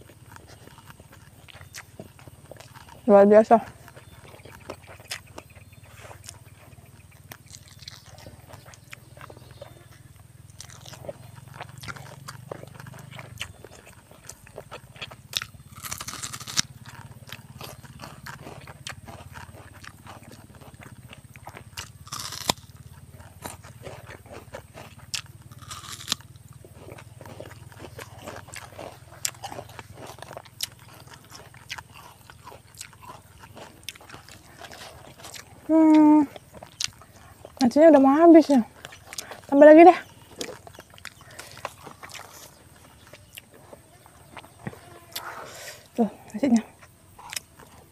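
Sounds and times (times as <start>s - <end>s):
crunching bites: 0.0s - 47.9s
person chewing: 0.0s - 47.9s.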